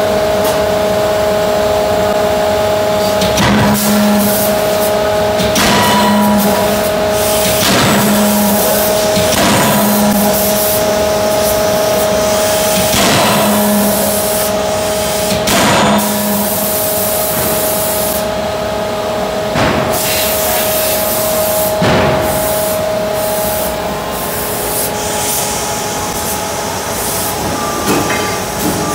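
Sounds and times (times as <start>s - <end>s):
forging hammer hiss and hum: 2.8s - 28.9s.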